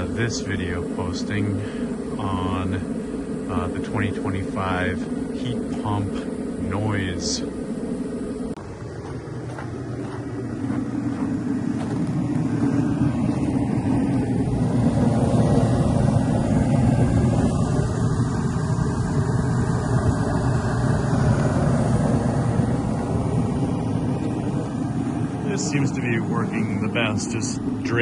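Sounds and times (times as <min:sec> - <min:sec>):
heater roaring: 0:00.0 - 0:28.0.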